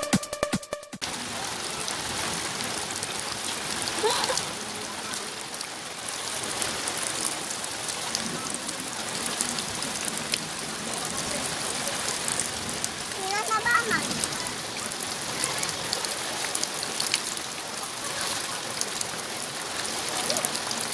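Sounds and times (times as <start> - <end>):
rain on wet pavement: 1.0 - 20.9.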